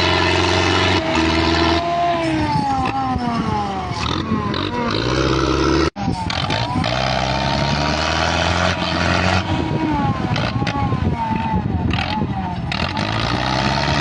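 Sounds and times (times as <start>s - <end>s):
tractor engines under load: 0.0s - 14.0s.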